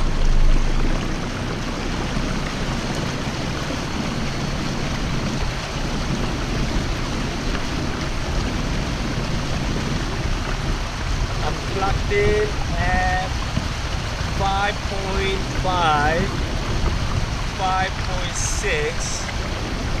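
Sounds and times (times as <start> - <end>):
water rushing along boat hull: 0.0 - 20.0.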